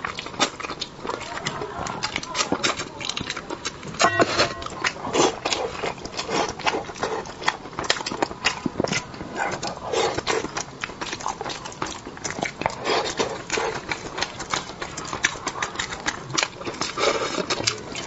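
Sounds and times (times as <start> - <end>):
eating with lip smacks: 0.0 - 18.0.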